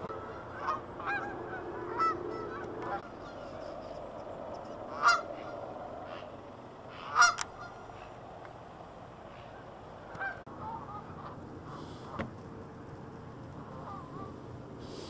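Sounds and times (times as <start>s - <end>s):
geese honking: 0.0s - 8.5s, 9.1s - 12.3s, 13.6s - 15.0s.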